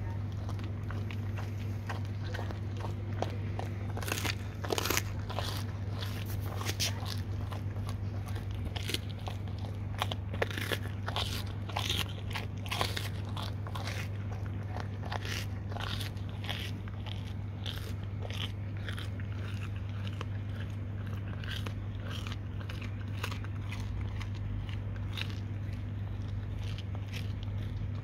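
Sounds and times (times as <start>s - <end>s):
dog chewing and crunching: 0.0s - 28.0s.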